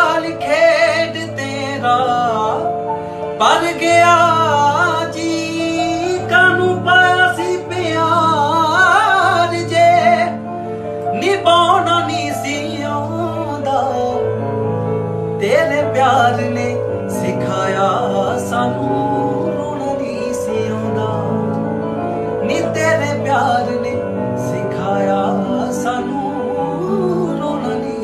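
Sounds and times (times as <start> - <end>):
melody over held chords: 0.0 - 28.0.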